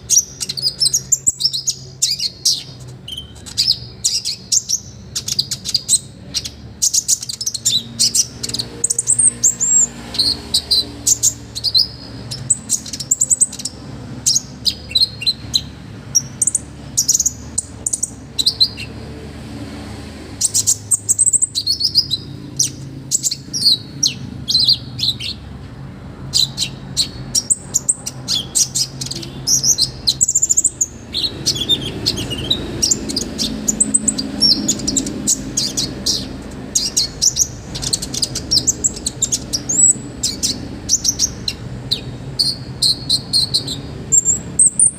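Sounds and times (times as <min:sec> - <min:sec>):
bird singing high chirps and trills: 0:00.0 - 0:25.6, 0:26.2 - 0:44.9.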